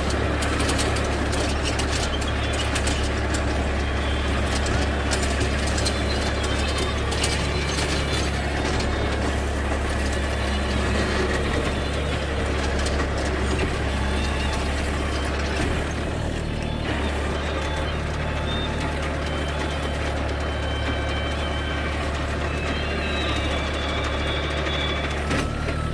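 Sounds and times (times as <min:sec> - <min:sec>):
tiller clattering and rattling: 0:00.0 - 0:25.9
tractor diesel engine droning: 0:00.0 - 0:25.9.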